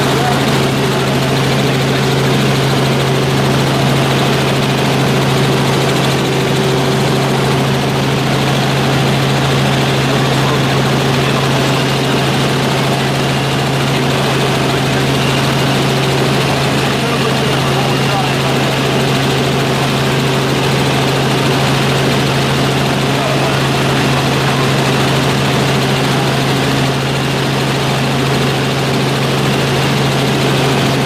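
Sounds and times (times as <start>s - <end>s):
helicopter rotor and engine drone: 0.0s - 31.0s.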